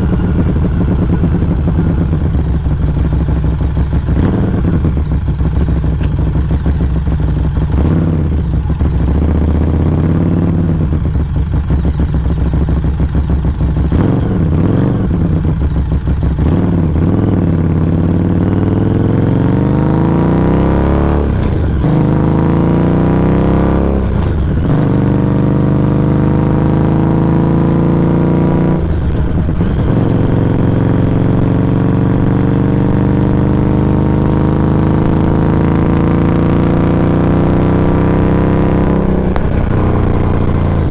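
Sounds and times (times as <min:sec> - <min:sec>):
motorcycle exhaust accelerating: 0:00.0 - 0:40.9.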